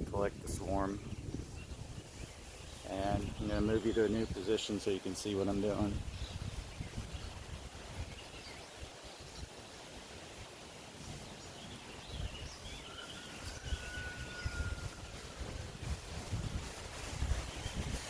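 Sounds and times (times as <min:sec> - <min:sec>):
birds chirping: 0:00.0 - 0:18.0
wind gusting on microphone: 0:00.0 - 0:18.0.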